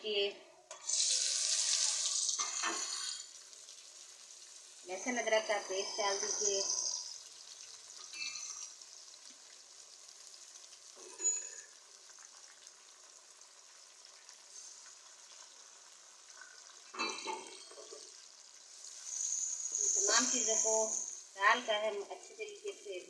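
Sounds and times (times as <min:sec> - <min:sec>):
food being stirred in pan: 0:00.7 - 0:21.4
food sizzling in hot oil: 0:00.7 - 0:23.0.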